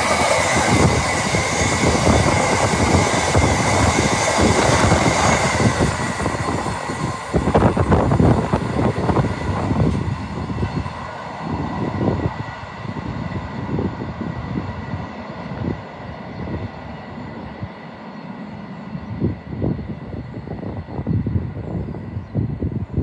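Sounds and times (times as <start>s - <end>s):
freight train wheels on rails: 0.0s - 23.0s.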